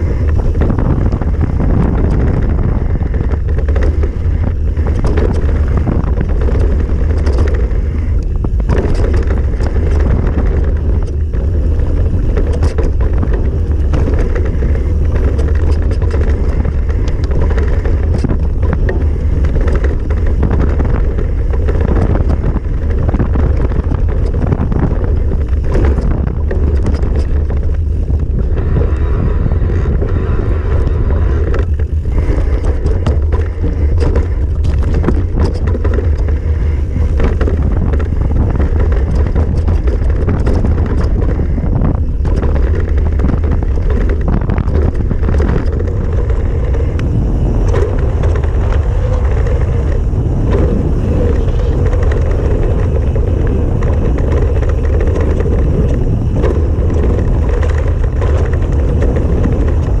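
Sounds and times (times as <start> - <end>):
bike tyres and suspension rattling: 0.0 - 60.0
wind rumbling on microphone: 0.0 - 60.0.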